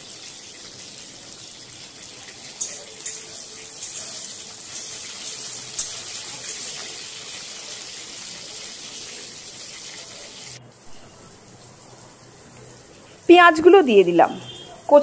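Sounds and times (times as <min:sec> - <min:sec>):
chillies sizzling in hot oil: 0:00.0 - 0:15.0.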